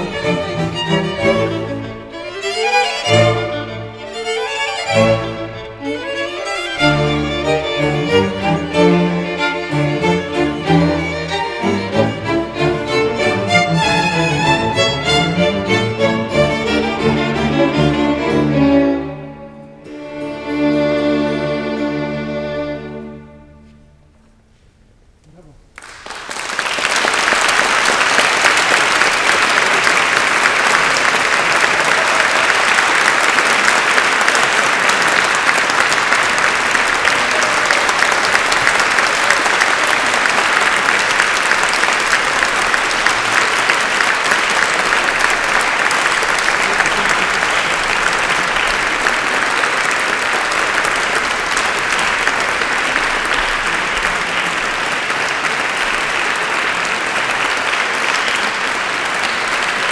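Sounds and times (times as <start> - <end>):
audience applauding: 0.0 - 19.2, 25.4 - 59.9.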